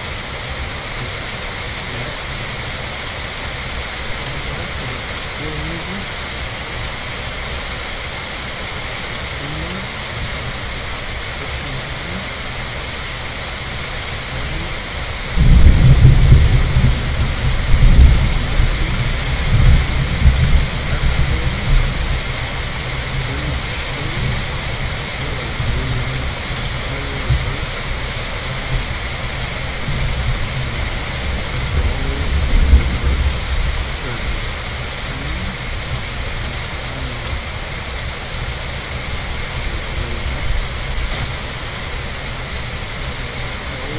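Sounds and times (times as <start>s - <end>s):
steady rain falling: 0.0s - 43.9s
thunder clap and rumble: 0.0s - 43.9s.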